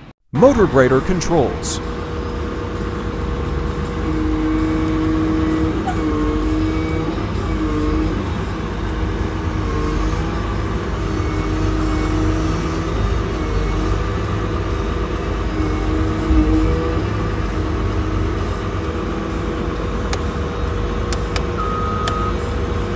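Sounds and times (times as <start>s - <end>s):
engine whine: 0.0s - 22.9s
diesel engine running: 0.4s - 22.9s.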